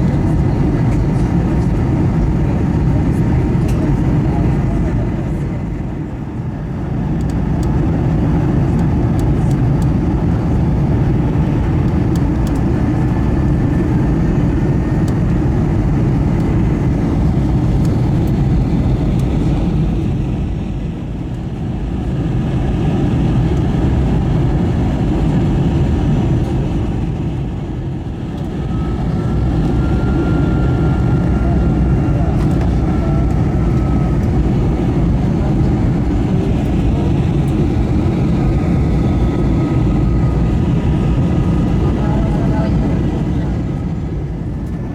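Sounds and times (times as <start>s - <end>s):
airliner cabin engine rush: 0.0s - 44.9s.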